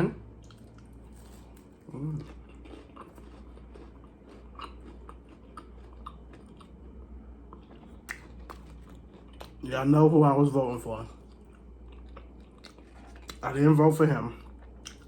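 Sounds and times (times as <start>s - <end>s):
person chewing food: 0.3s - 9.8s, 11.0s - 13.5s, 14.3s - 15.0s.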